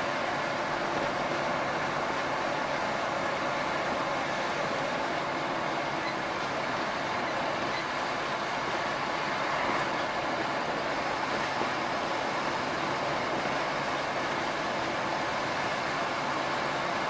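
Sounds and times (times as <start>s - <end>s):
truck road and tyre noise: 0.0s - 17.0s.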